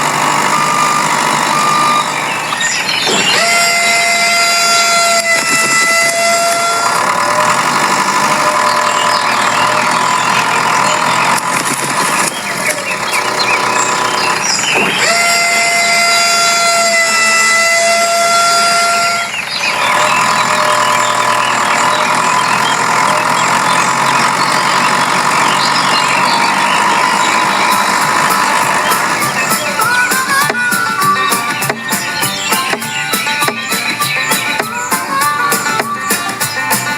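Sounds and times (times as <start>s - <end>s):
vehicle engine running: 0.0s - 36.9s.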